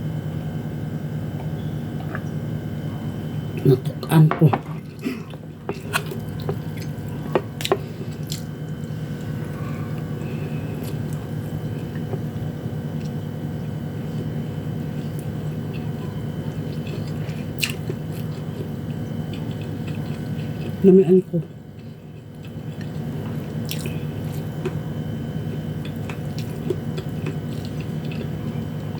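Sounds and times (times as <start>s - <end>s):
steady hum: 0.0s - 28.9s
mouth chewing food: 4.7s - 13.2s, 14.1s - 28.9s.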